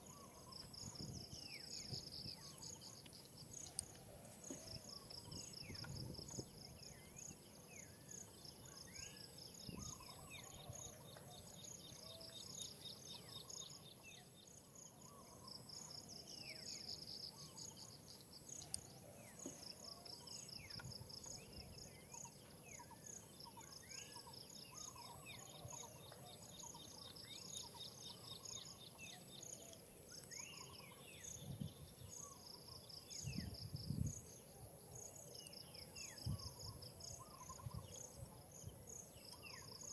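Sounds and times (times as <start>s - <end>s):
insect trills: 0.0s - 39.9s.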